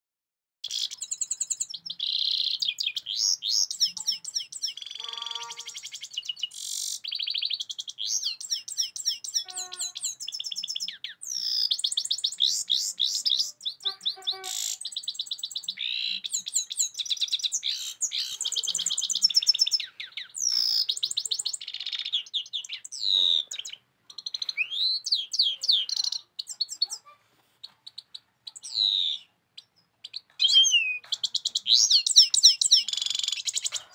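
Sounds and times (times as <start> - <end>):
finch twittering song: 0.6 - 33.9.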